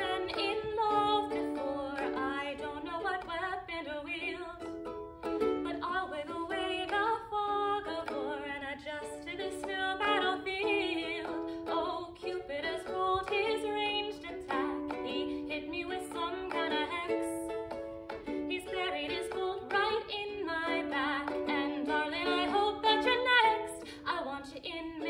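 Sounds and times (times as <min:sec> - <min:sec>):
strummed ukulele chords: 0:00.0 - 0:25.0
woman singing: 0:00.0 - 0:25.0.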